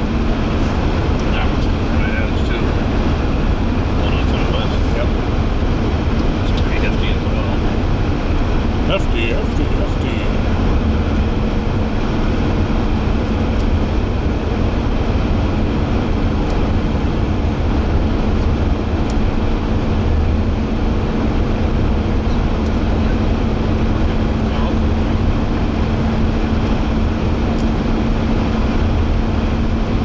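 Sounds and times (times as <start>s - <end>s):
tyre and engine rumble: 0.0s - 30.0s.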